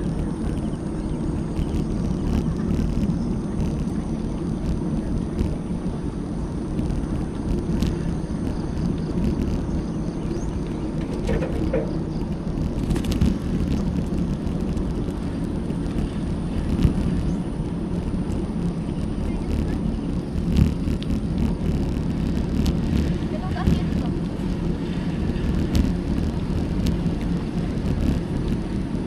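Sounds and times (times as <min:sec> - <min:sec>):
bicycle tyre noise on road: 0:00.0 - 0:29.0
bike rattling on bumps: 0:00.0 - 0:29.0
wind buffeting microphone: 0:00.0 - 0:29.0.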